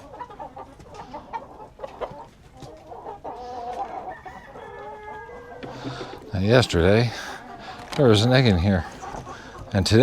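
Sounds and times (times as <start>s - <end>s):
hens clucking and calling: 0.0s - 10.0s.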